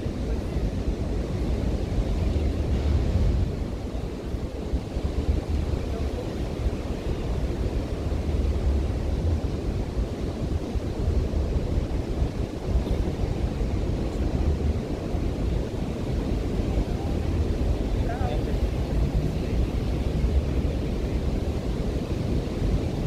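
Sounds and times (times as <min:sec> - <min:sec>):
surf washing on sand: 0:00.0 - 0:23.0
wind buffeting microphone: 0:00.0 - 0:23.0.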